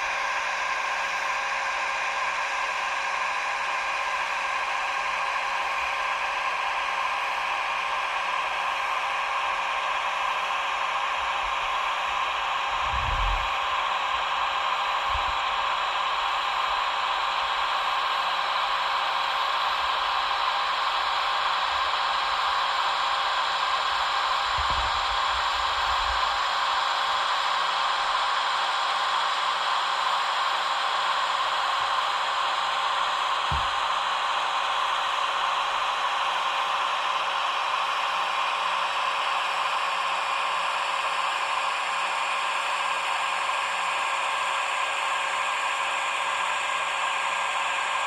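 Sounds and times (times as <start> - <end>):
model crane motor whirring: 0.0 - 48.0.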